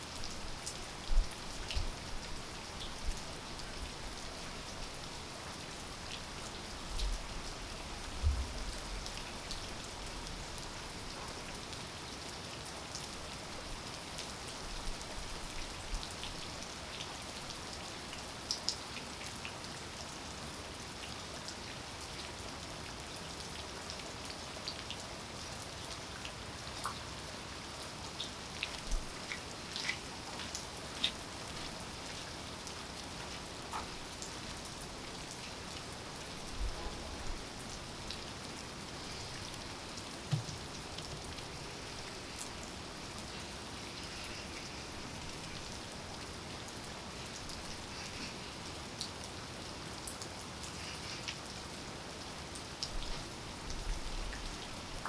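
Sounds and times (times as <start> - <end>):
raindrops ticking on surfaces: 0.0 - 55.0
steady rain falling: 0.0 - 55.0.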